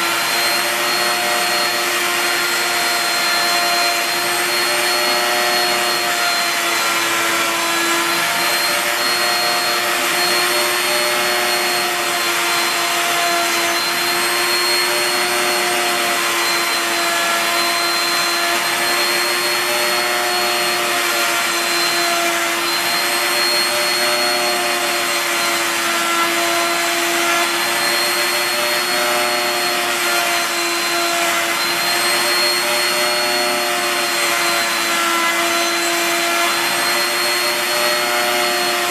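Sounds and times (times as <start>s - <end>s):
router motor whining: 0.0s - 38.9s.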